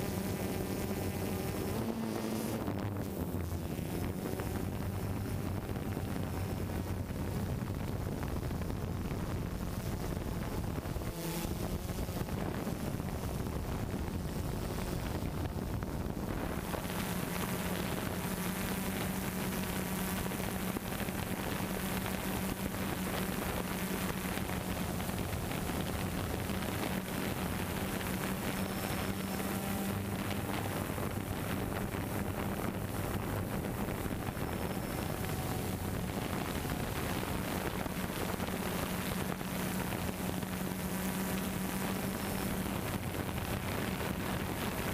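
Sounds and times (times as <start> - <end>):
drone propellers whirring: 0.0 - 44.9
low hum: 0.0 - 44.9
wind noise: 0.0 - 44.9.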